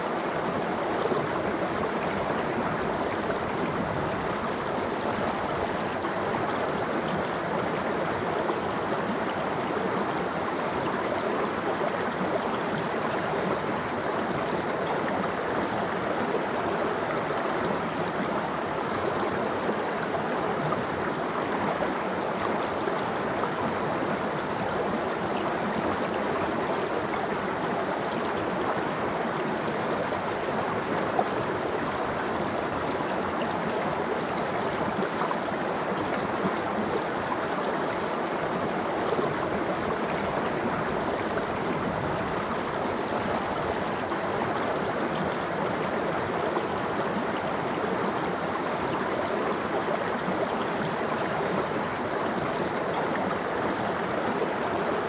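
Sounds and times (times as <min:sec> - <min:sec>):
stream gurgling over rocks: 0:00.0 - 0:55.0.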